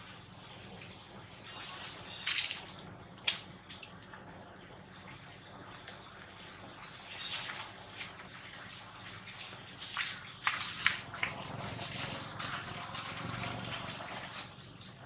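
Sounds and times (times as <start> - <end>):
dry leaves rustling and crackling: 0.0 - 4.0, 6.4 - 15.0.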